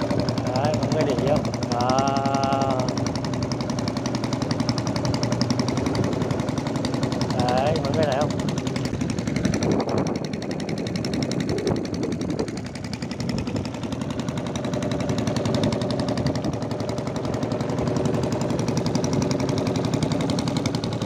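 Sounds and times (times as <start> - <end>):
small boat engine pulsing: 0.0 - 21.0.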